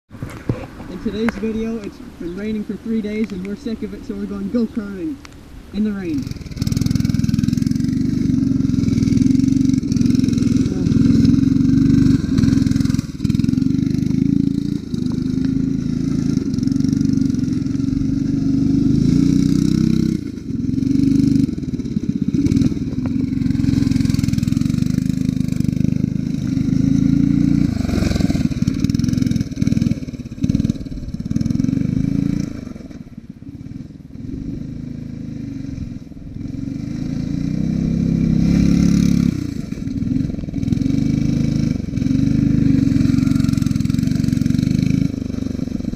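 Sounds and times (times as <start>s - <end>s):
go-kart engine revving: 5.8s - 45.9s.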